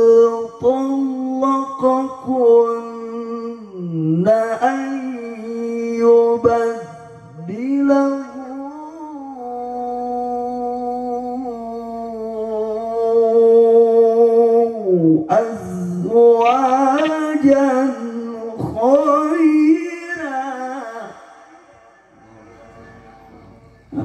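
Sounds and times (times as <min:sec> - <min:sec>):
man reciting melodically over speakers: 0:00.0 - 0:24.0.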